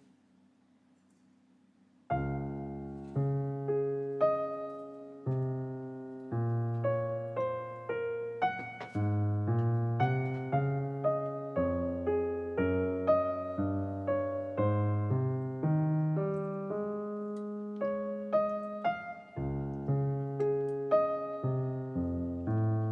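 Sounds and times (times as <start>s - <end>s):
piano single notes: 2.1s - 22.9s.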